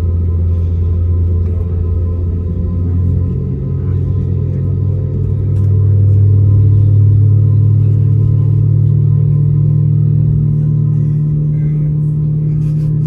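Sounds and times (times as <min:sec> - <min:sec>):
jet engines humming: 0:00.0 - 0:13.0.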